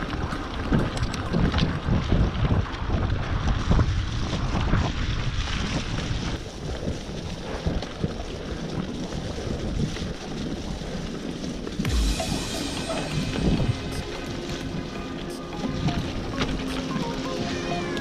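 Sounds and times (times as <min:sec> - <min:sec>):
bike tyres rolling through mud: 0:00.0 - 0:18.0
wind buffeting microphone: 0:00.0 - 0:18.0.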